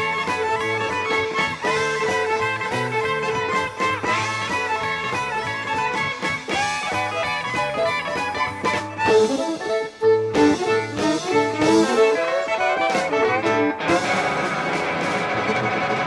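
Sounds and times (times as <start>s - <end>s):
country band playing: 0.0s - 16.0s
quick run of lead notes: 0.0s - 16.0s.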